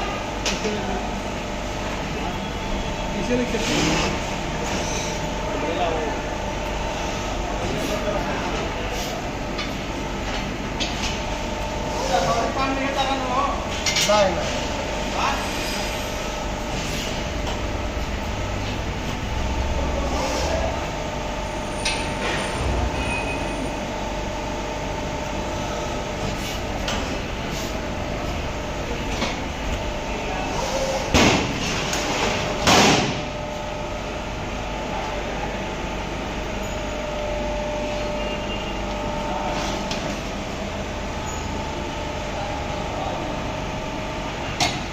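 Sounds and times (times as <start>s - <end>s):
bending machine humming: 0.0s - 44.9s.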